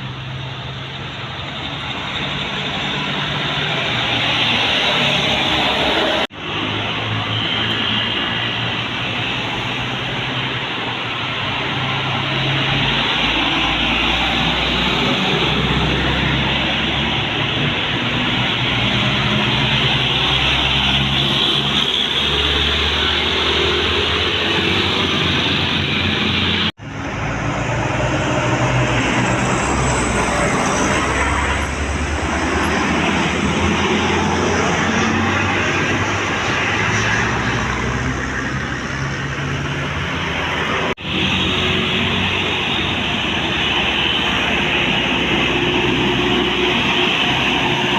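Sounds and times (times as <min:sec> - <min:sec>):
bus engines running: 0:00.0 - 0:47.9
road traffic hiss: 0:00.0 - 0:47.9.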